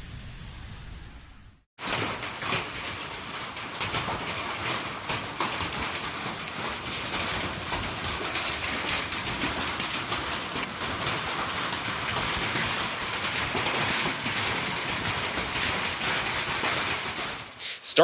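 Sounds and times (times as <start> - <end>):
hailstones pelting down: 1.8 - 18.0.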